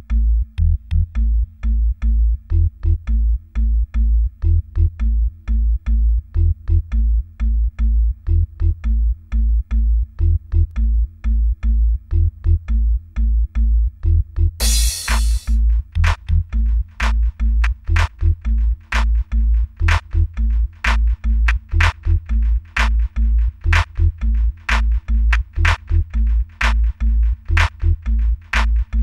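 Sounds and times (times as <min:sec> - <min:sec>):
electronic music with bass beat: 0:00.0 - 0:29.0.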